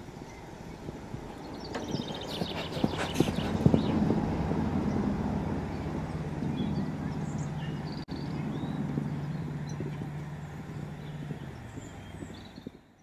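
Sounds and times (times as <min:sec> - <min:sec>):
hoofbeats cantering on sand: 0:00.0 - 0:13.0
steady low hum: 0:00.0 - 0:13.0.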